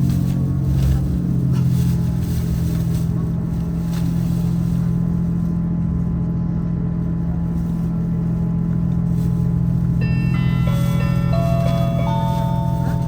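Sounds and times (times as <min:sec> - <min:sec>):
diesel engine drone: 0:00.0 - 0:13.0
train running rumble: 0:00.0 - 0:13.0.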